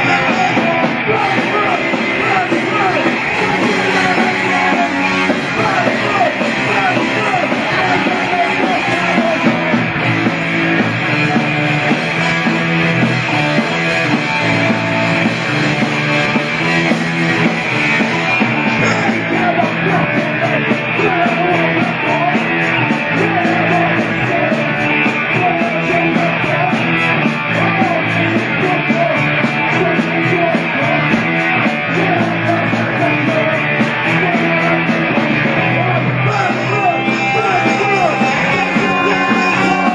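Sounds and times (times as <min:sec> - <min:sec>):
bass guitar: 0:00.0 - 0:39.9
electric guitar: 0:00.0 - 0:39.9
punk band playing live: 0:00.0 - 0:39.9.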